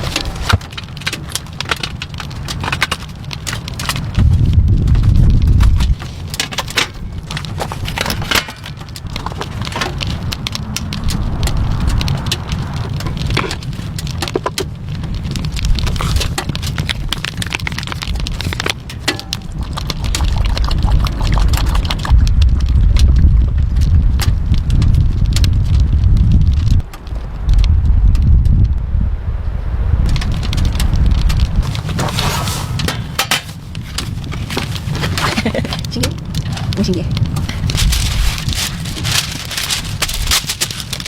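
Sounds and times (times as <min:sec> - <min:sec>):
rain ticking on a surface: 0:00.0 - 0:29.0, 0:29.7 - 0:41.0
wind rumbling on microphone: 0:00.0 - 0:41.0.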